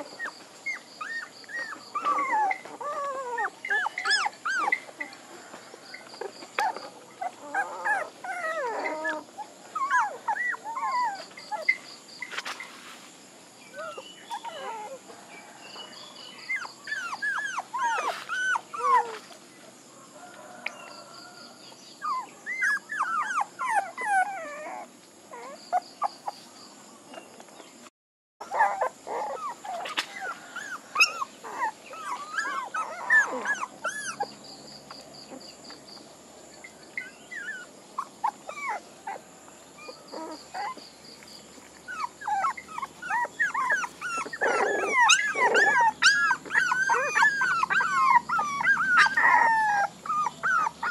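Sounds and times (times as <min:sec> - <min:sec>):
puppies whimpering and yelping: 0:00.0 - 0:12.6, 0:13.7 - 0:15.2, 0:15.8 - 0:19.4, 0:22.0 - 0:26.4, 0:28.4 - 0:35.4, 0:36.6 - 0:40.9, 0:41.6 - 0:50.9.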